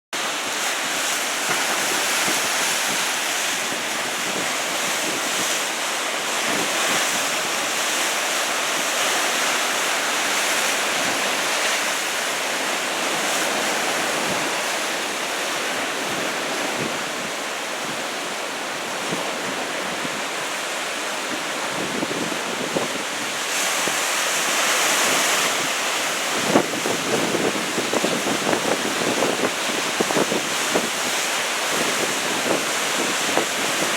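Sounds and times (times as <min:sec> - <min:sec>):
surf breaking and washing in: 0:00.2 - 0:33.9
wind buffeting microphone: 0:00.8 - 0:05.6, 0:09.4 - 0:33.9.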